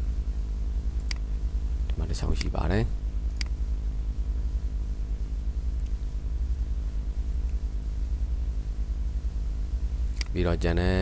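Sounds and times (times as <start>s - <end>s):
low electrical hum with hiss: 0.0s - 11.0s.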